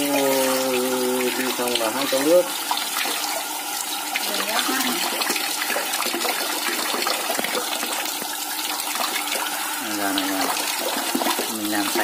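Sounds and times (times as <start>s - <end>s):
tap water running into basin: 0.0s - 12.0s.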